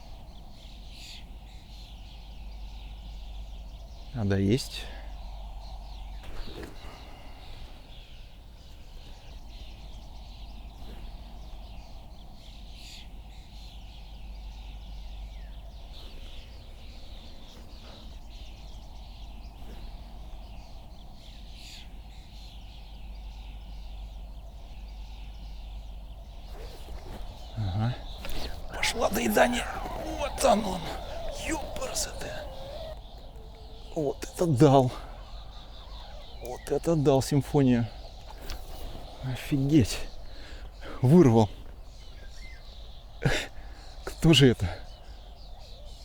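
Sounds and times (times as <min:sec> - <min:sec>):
birds chirping and trilling: 0:00.0 - 0:46.0.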